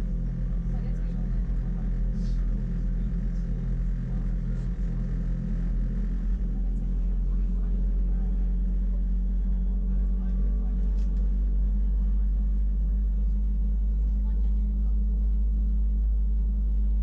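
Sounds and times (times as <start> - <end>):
train rumble and gear hum: 0.0 - 17.0.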